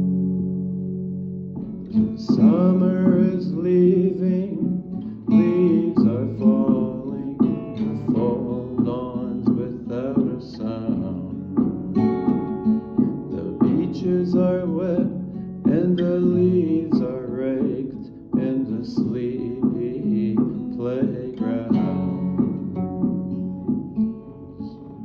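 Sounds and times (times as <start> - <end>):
acoustic guitar playing: 0.0 - 25.0
person singing: 1.9 - 25.0.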